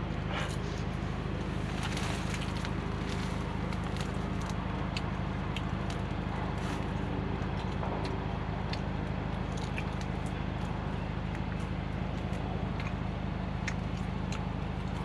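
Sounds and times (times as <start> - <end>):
low mechanical hum: 0.0 - 15.0
light clicks and crackles: 1.5 - 15.0.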